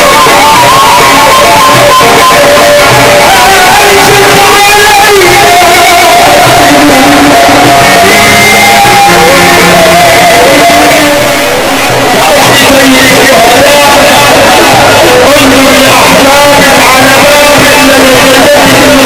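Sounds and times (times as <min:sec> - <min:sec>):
man chanting through microphone: 0:00.0 - 0:19.0.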